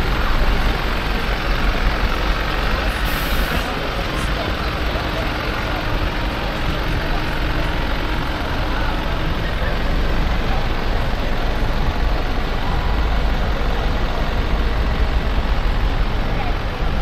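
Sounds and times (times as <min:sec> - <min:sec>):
city street traffic: 0:00.0 - 0:17.0
heavy vehicle engine rumble: 0:00.0 - 0:17.0.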